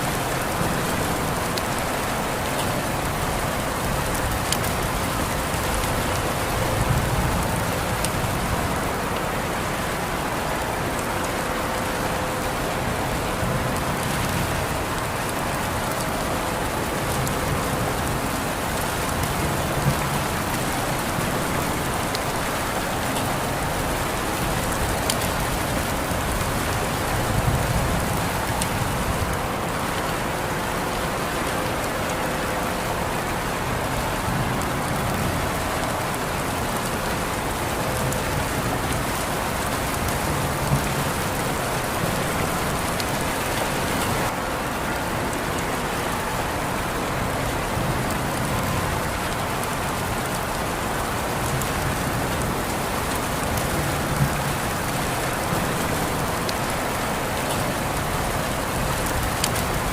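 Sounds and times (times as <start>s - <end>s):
rain falling: 0.0s - 59.9s
raindrop ticks: 0.1s - 9.3s, 13.7s - 30.1s, 34.1s - 44.3s, 47.7s - 59.9s.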